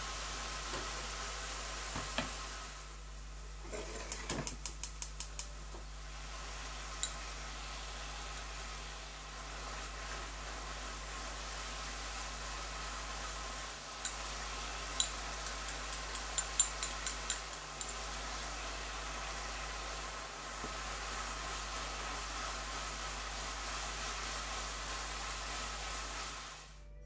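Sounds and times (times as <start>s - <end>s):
food sizzling in a frying pan: 0.0s - 26.8s.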